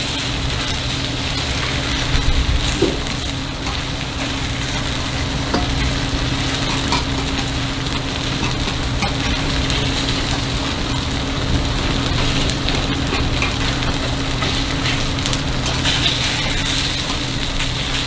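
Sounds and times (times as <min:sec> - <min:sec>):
batter sizzling in a pan: 0:00.0 - 0:18.0
steady low hum: 0:00.0 - 0:18.0.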